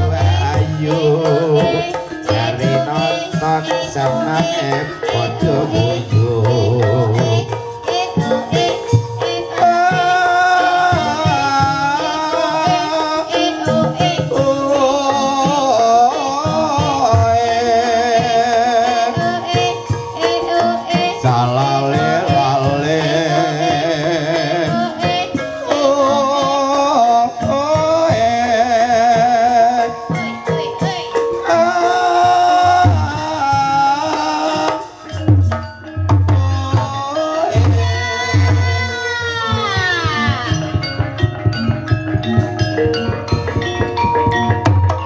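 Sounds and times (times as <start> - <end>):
person singing wavering vocal: 0.0 - 35.2, 36.4 - 41.1
drums: 0.0 - 45.0
gamelan instrument tones: 0.0 - 45.0.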